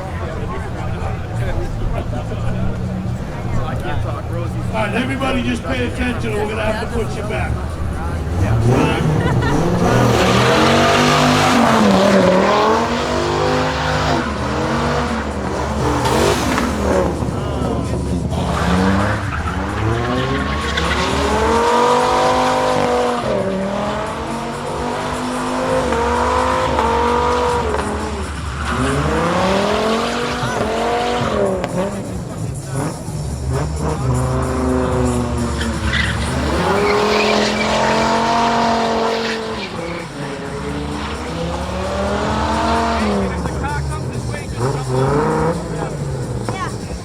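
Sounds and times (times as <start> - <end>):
car engine revving hard: 0.0 - 47.0
tyres squealing: 0.0 - 47.0.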